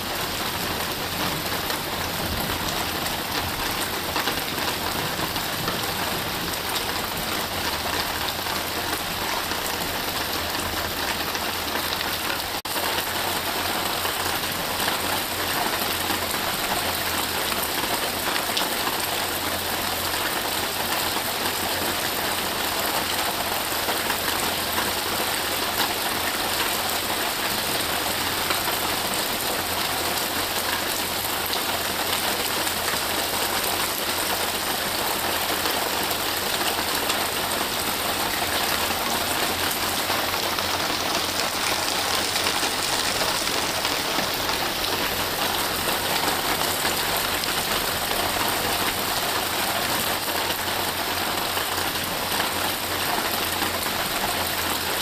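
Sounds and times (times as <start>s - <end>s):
rain falling on foliage: 0.0s - 55.0s.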